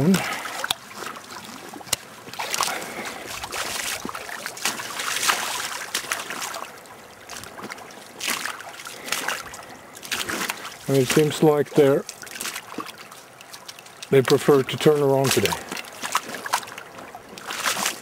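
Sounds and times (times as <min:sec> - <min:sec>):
feet splashing through a stream: 0:00.0 - 0:18.0
stream running water: 0:00.0 - 0:18.0.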